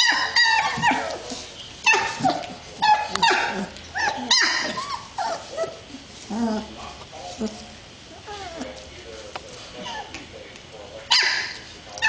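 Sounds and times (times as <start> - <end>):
puppies yelping and whining: 0.0 - 8.8, 9.8 - 10.2, 11.1 - 11.7.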